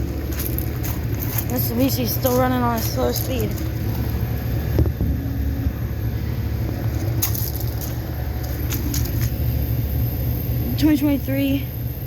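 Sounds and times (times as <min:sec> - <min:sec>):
air conditioner units humming: 0:00.0 - 0:12.0.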